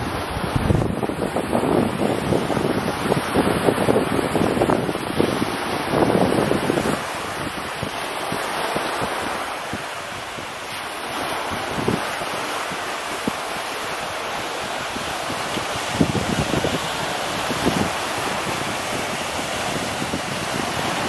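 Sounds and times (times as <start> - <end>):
waves washing onto sandy shore: 0.0 - 21.0
wind buffeting microphone: 0.0 - 21.0.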